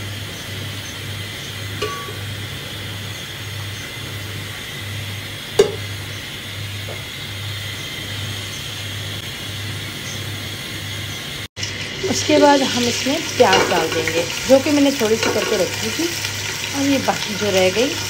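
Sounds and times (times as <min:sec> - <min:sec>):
oil heating hiss: 0:00.0 - 0:18.0.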